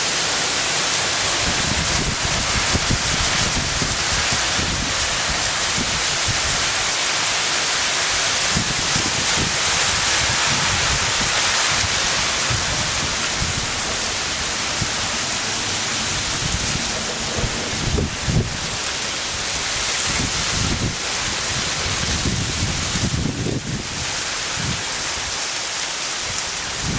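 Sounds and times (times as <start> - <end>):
hail and rain falling: 0.0 - 26.9
hailstones thumping: 1.0 - 26.9.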